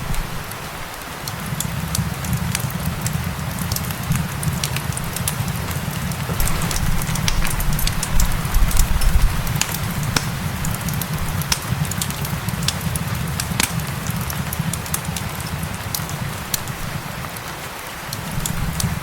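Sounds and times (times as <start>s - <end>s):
fireplace crackling and popping: 0.0s - 19.0s
rain hiss: 0.0s - 19.0s.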